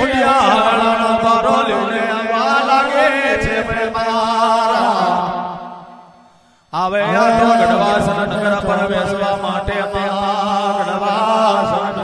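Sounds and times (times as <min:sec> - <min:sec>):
men singing devotional chant: 0:00.0 - 0:05.9, 0:06.8 - 0:12.0.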